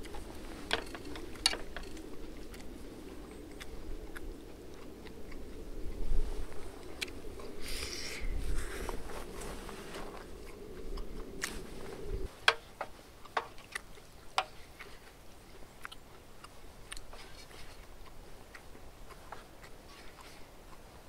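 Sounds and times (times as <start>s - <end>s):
chewing and crunching: 0.0s - 21.0s
steady low hum: 0.0s - 21.0s.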